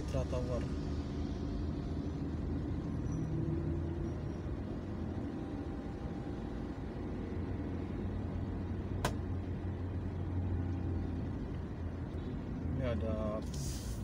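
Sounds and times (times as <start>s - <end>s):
car engine and road hum: 0.0s - 14.0s.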